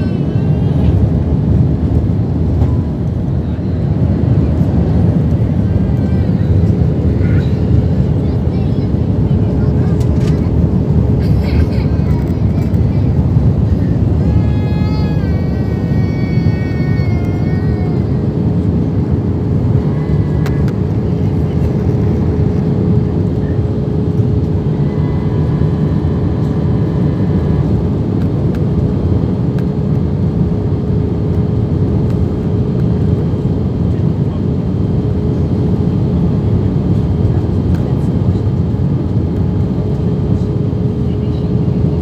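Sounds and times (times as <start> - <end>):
airliner cabin engine and airflow noise: 0.0 - 42.0
constant hum tone: 0.0 - 42.0.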